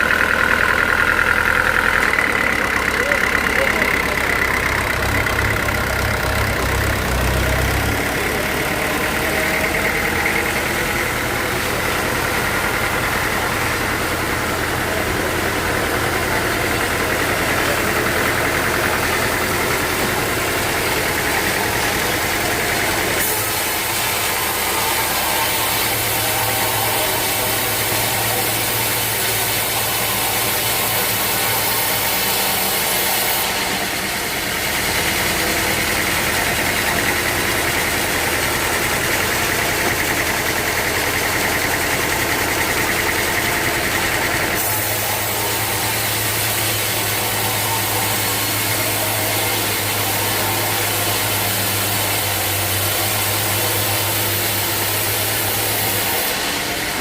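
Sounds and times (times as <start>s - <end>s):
sawmill machinery engine drone: 0.0s - 57.0s.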